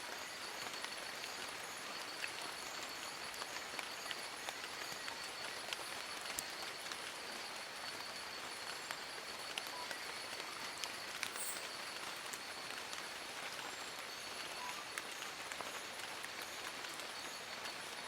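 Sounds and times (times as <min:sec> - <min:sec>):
rain falling on leaves: 0:00.0 - 0:18.0.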